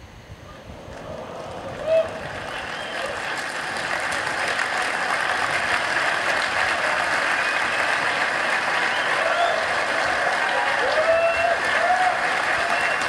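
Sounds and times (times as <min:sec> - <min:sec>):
large audience applauding: 0:00.8 - 0:13.0.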